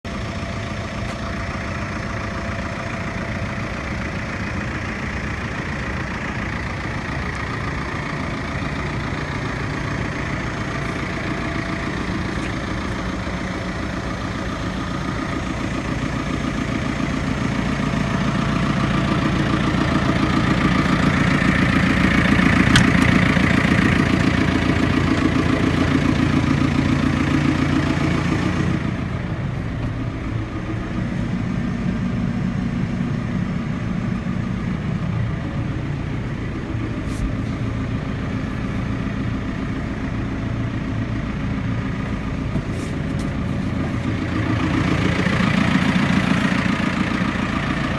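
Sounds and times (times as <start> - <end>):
diesel engine running: 0.1 - 47.9.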